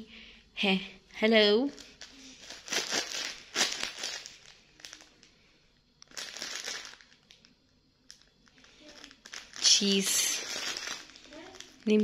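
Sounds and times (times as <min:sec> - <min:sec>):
plastic bag crinkling: 0:01.7 - 0:05.4, 0:06.0 - 0:12.0.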